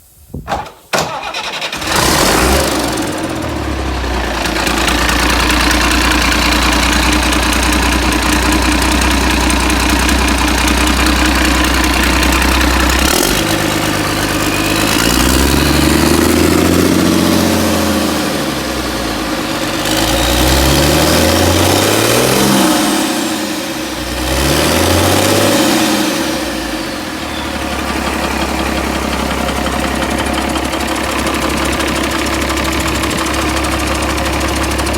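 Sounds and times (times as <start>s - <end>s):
diesel engine cranking: 0.4s - 34.9s
diesel engine idling and revving: 1.0s - 34.9s.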